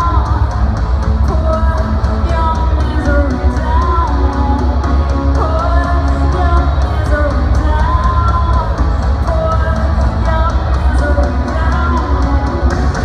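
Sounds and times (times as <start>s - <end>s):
guitar: 0.0s - 13.0s
woman singing lead vocal: 0.0s - 13.0s.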